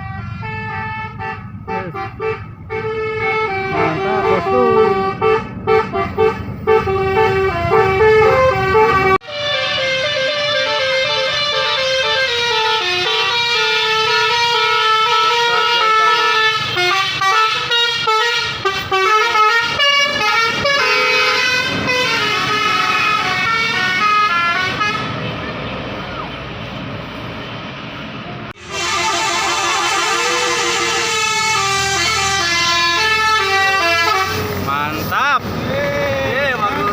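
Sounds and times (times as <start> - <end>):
bus musical horn playing a tune: 0.0 - 25.5, 28.6 - 34.6.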